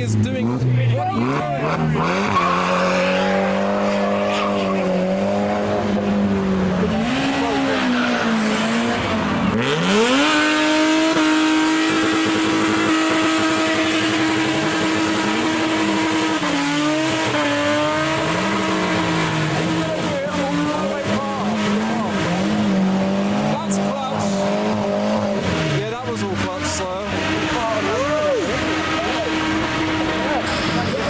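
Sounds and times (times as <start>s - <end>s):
car engine at high revs: 0.0s - 31.0s.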